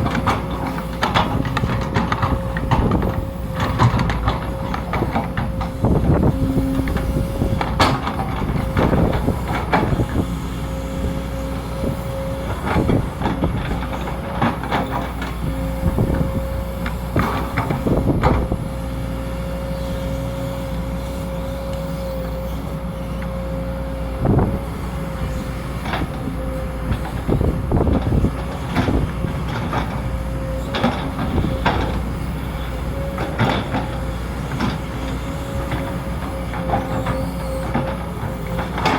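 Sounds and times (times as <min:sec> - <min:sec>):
excavator diesel engine whining: 0:00.0 - 0:38.9.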